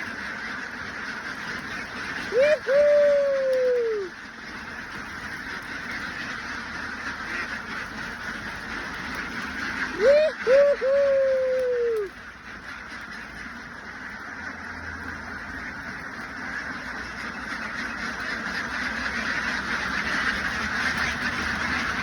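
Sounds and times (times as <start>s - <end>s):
drawn-out duck call: 0.0s - 22.0s
flock of ducks quacking: 0.0s - 22.0s.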